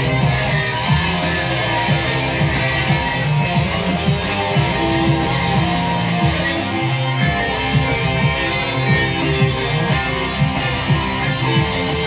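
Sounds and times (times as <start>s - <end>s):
bass notes: 0.0s - 12.0s
electric guitar: 0.0s - 12.0s
steady drum beat: 0.0s - 12.0s.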